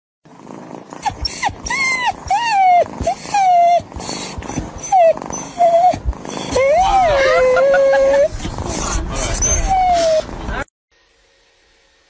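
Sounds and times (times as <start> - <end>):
pet whining: 0.3 - 10.7.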